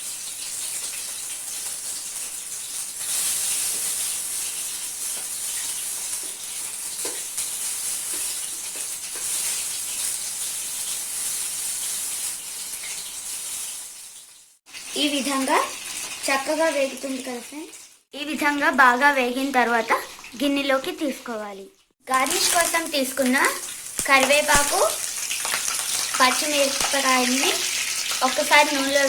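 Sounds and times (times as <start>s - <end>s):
food deep-frying in hot oil: 0.0s - 29.0s.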